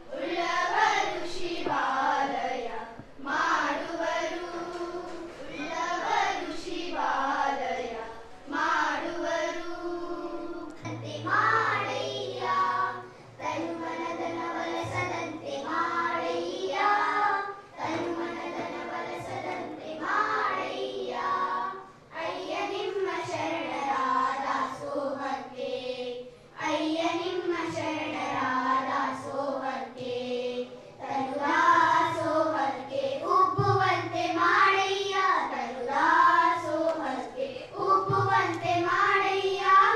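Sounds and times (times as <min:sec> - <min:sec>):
girls singing into microphone: 0:00.0 - 0:39.9.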